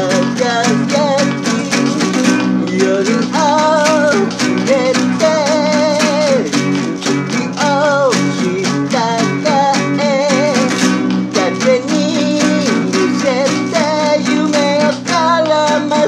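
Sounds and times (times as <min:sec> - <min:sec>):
classical guitar strumming: 0:00.0 - 0:16.0
man singing: 0:00.0 - 0:16.0.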